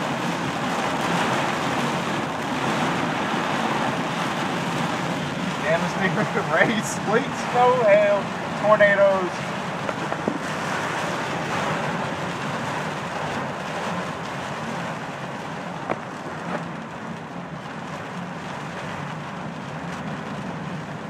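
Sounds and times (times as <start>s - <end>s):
heavy rain on car: 0.0s - 21.0s
tyre noise on wet road: 0.0s - 21.0s.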